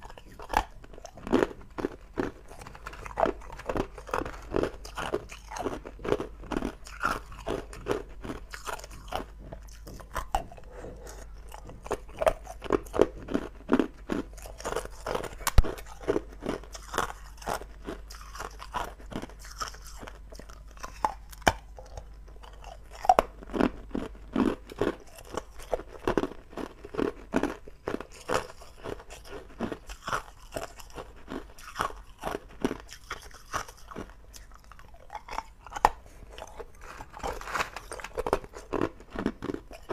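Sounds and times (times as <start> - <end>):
ice cubes crunching: 0.0 - 10.3, 11.5 - 21.6, 22.4 - 39.9
chewing: 0.0 - 39.9.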